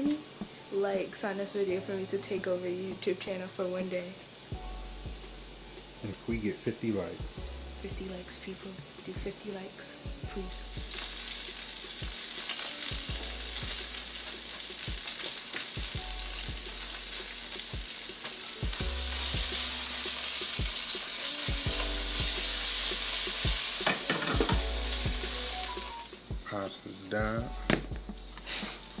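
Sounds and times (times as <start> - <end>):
sausage sizzling in a pan: 0.0 - 29.0.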